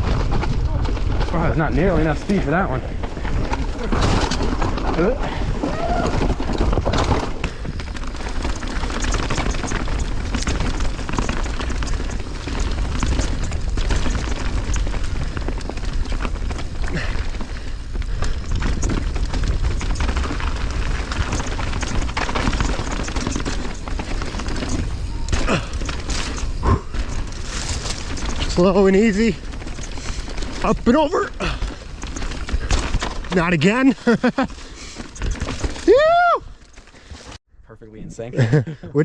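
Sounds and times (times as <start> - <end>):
wind rumble on microphone: 0.0 - 33.4
bike clicks and knocks over rocks: 0.0 - 37.3.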